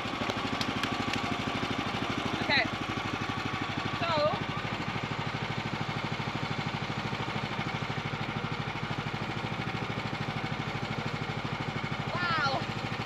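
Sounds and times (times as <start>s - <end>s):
small gas engine pulsing: 0.0s - 13.0s.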